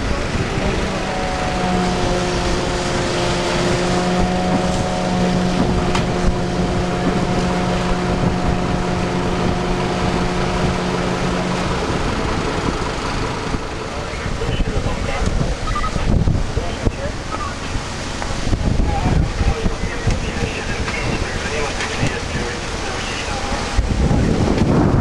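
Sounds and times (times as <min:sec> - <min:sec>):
fire truck engine droning: 0:00.0 - 0:25.0
wind noise on microphone: 0:00.0 - 0:25.0.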